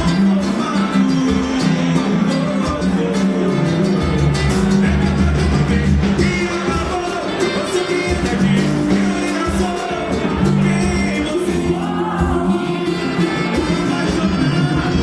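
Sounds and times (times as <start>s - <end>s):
band music with singing: 0.0s - 15.0s
steady bass line: 0.0s - 15.0s.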